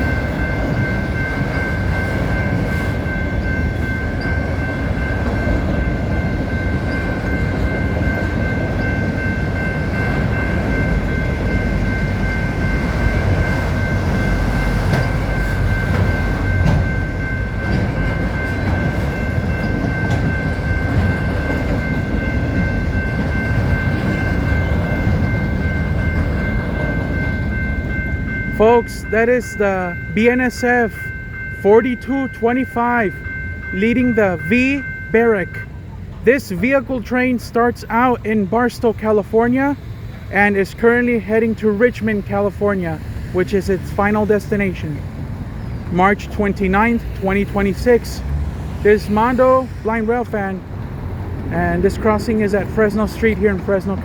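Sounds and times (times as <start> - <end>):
high-pitched tones: 0.0 - 45.0
freight train rolling past: 0.0 - 54.0.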